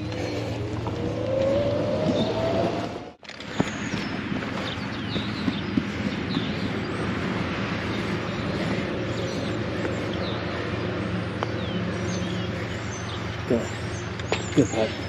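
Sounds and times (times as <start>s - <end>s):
bird chirps: 0.0s - 15.0s
low motor hum: 0.0s - 15.0s.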